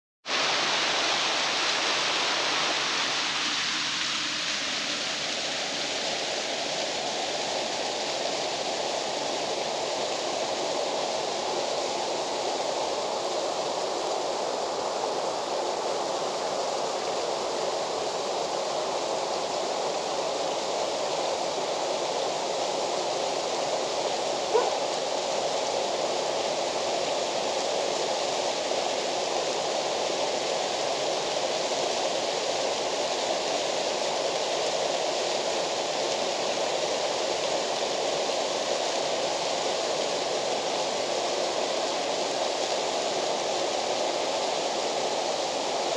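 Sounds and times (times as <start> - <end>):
waterfall rushing: 0.2 - 45.9.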